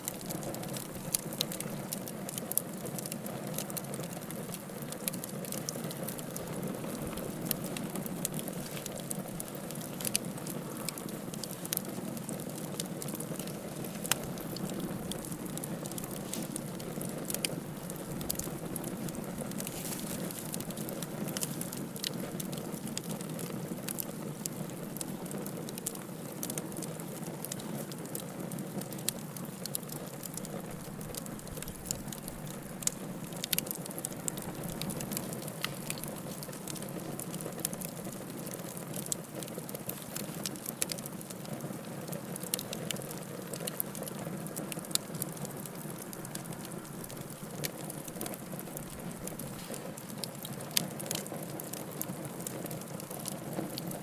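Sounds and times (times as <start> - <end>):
fire crackles and pops: 0.0 - 54.0
wood fire burning: 0.0 - 54.0.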